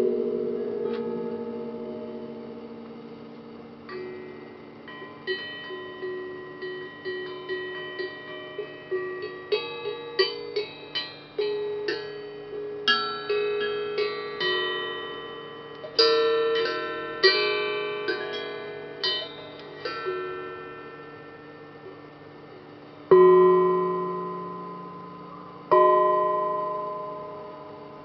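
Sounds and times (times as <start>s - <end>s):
ringing metallic notes: 0.0s - 28.0s.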